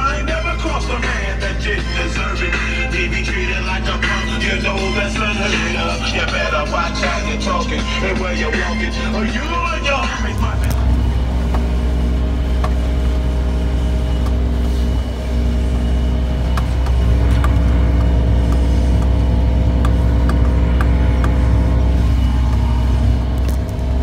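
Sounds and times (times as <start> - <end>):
tractor engine running under load: 0.0 - 24.0.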